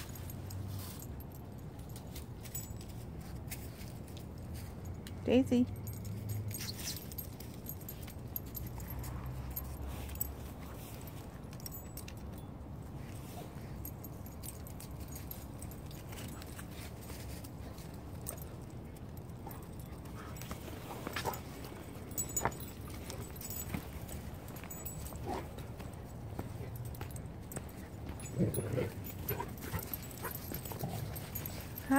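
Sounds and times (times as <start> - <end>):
light clinks: 0.0 - 31.9.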